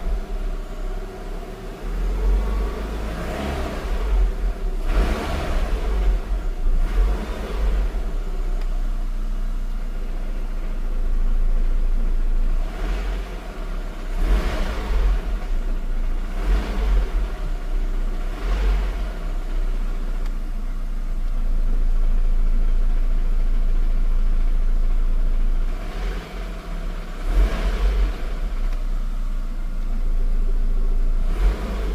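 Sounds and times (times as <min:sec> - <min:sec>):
car engine with low rumble: 0:00.0 - 0:31.9.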